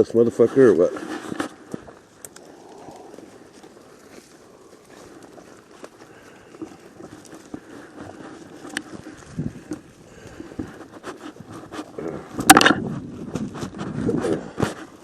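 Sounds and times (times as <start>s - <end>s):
footsteps through brush: 0.0s - 15.0s
twigs cracking: 0.7s - 15.0s.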